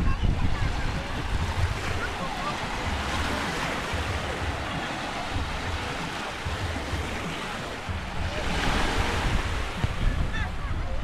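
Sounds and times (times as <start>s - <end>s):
small waves washing onto sand: 0.0s - 11.0s
wind buffeting microphone: 0.0s - 11.0s.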